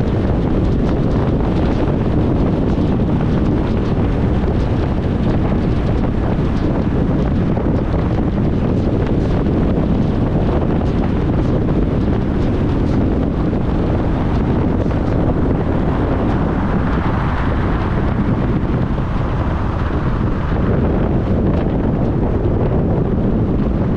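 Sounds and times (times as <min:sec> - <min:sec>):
car road and engine rumble: 0:00.0 - 0:23.9
wind noise: 0:00.0 - 0:23.9.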